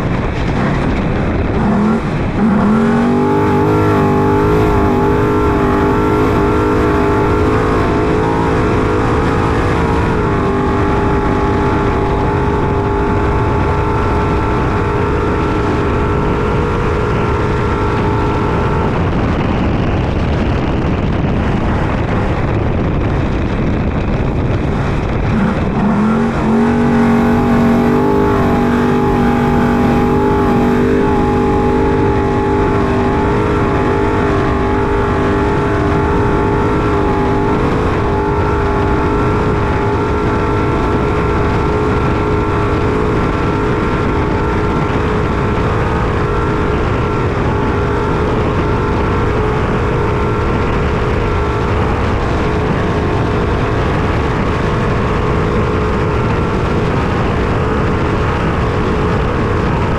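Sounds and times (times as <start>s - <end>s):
rumble of tyres and chassis: 0.0s - 59.9s
truck engine running hard: 0.0s - 59.9s.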